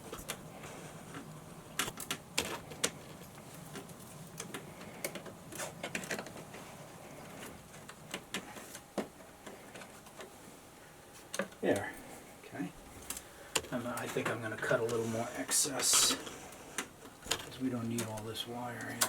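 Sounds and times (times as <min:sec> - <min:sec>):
electrical cable clicking and rattling: 0:00.0 - 0:12.2, 0:12.8 - 0:19.0.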